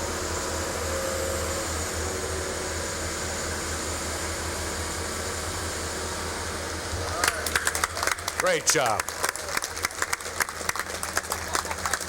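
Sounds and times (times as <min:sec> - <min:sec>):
diesel engines droning: 0:00.0 - 0:12.0.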